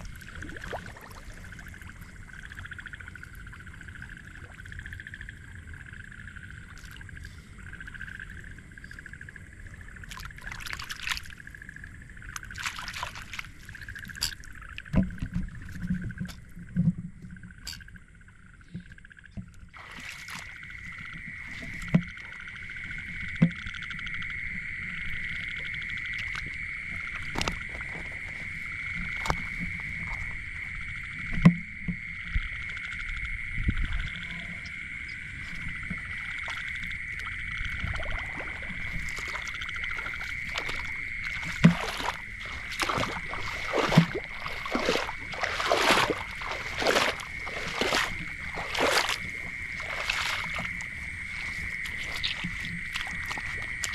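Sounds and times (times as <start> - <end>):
frogs trilling: 0.0 - 53.9
water sounds: 0.0 - 53.9.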